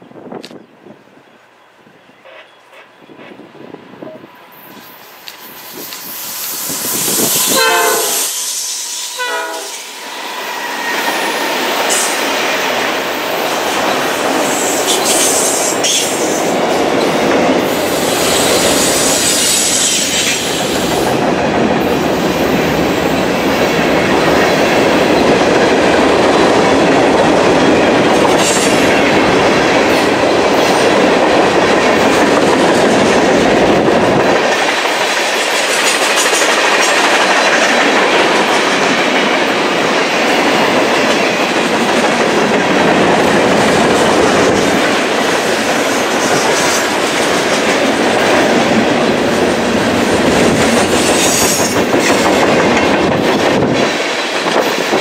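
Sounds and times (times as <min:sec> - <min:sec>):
train wheels rolling on rail: 0:00.0 - 0:55.0.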